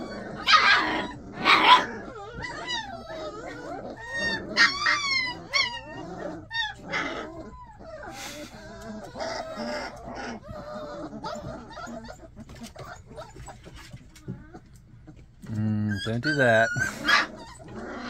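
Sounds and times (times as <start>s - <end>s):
puppies yelping and whimpering: 0.0s - 18.0s.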